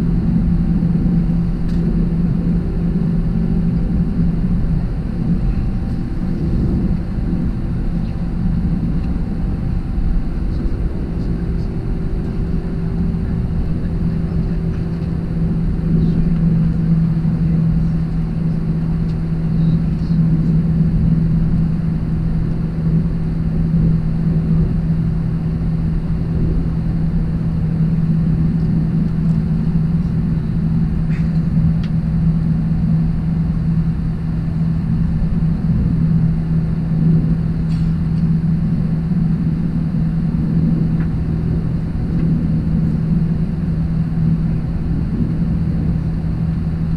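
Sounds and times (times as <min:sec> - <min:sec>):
jet engines humming in cabin: 0:00.0 - 0:46.9.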